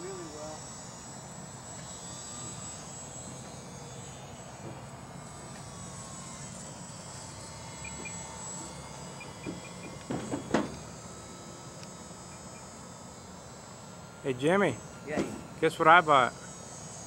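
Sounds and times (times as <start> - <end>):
distant model airplane motor buzz: 0.0 - 17.0.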